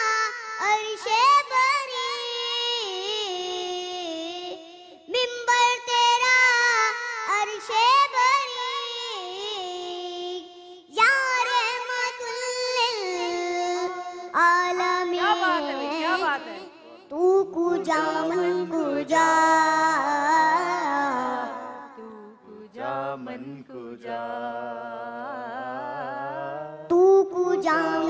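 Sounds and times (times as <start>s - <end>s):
boy singing into a microphone: 0.0s - 24.2s, 24.8s - 28.0s.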